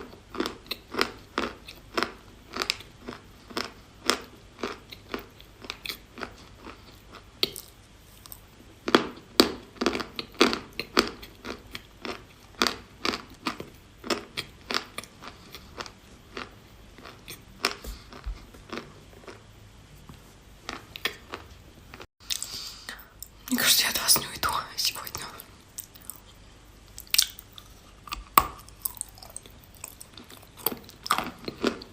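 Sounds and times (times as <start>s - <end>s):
person chewing chalk crunches: 0.0s - 19.4s, 25.2s - 31.9s.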